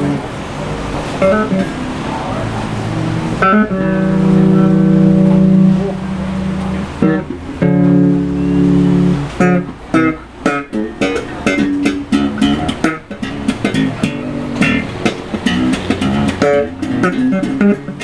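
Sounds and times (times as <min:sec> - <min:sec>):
electric bass through amplifier: 0:00.0 - 0:18.0.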